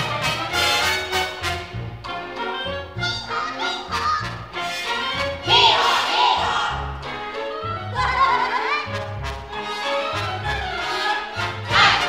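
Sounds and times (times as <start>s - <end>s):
orchestra playing brass and strings: 0.0s - 12.0s.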